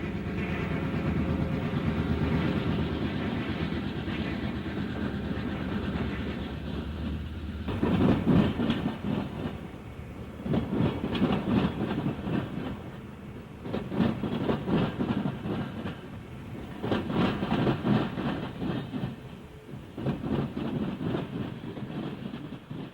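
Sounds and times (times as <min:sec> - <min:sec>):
train low rumble: 0:00.0 - 0:22.9
train wheels clattering over rails: 0:00.0 - 0:22.9.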